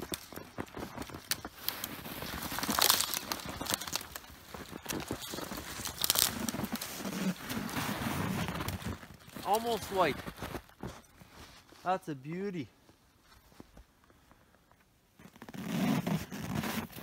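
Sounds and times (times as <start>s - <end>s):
snow crunching: 0.0s - 13.9s.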